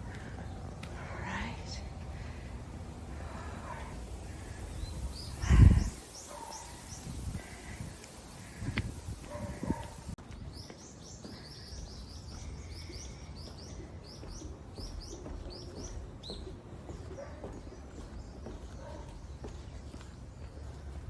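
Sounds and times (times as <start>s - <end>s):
bird chirping: 3.6s - 21.0s.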